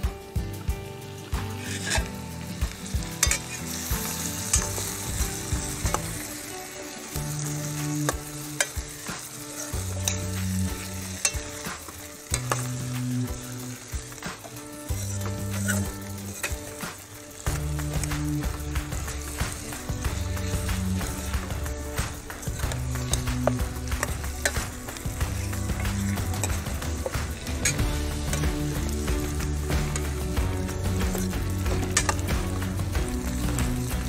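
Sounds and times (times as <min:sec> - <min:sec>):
chicken sizzling in hot oil: 0:00.0 - 0:34.0
ladle clicking and scraping pot: 0:01.4 - 0:02.2, 0:02.8 - 0:34.0.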